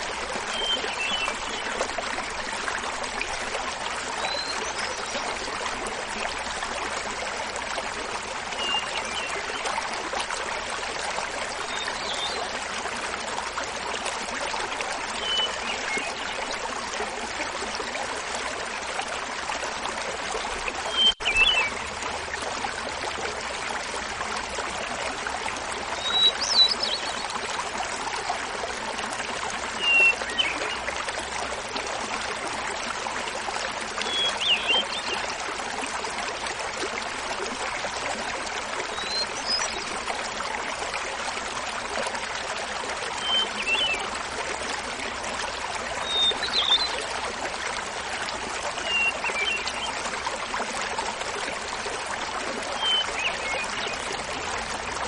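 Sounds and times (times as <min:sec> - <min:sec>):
small waterfall babbling: 0:00.0 - 0:55.0.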